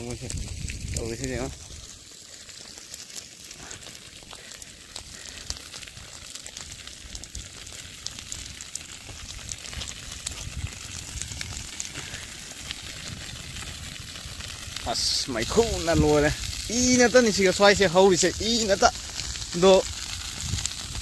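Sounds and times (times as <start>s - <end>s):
food frying in hot oil: 0.0s - 21.0s.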